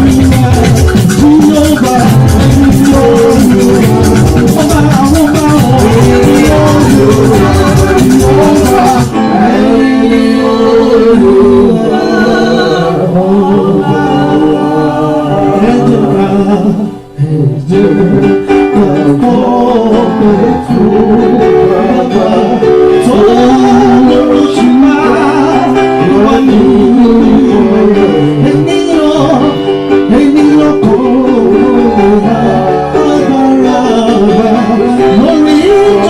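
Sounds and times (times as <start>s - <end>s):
church praise music with singing: 0.0s - 36.0s.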